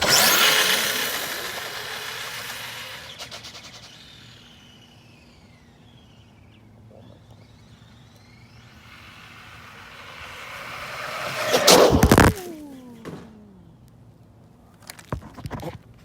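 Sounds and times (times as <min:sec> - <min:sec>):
toy truck motor and tyres: 0:00.0 - 0:14.0
faint whine rising and falling: 0:00.0 - 0:14.3.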